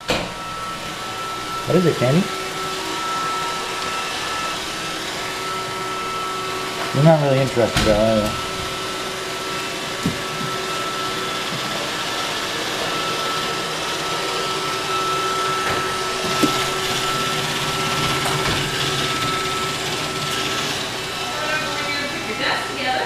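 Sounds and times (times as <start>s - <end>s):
robot vacuum whirring: 0.4s - 23.0s.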